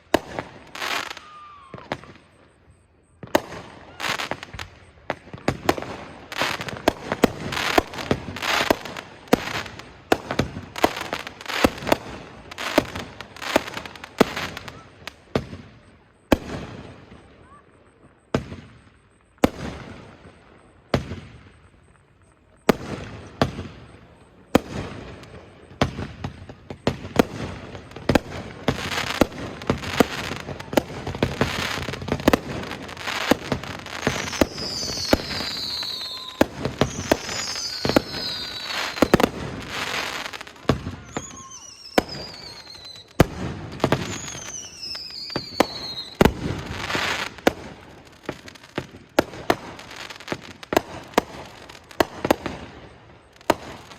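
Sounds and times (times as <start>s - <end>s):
firework bangs: 0.0s - 53.9s
firework crackling: 0.0s - 53.9s
firework whistles falling in pitch: 0.1s - 48.8s.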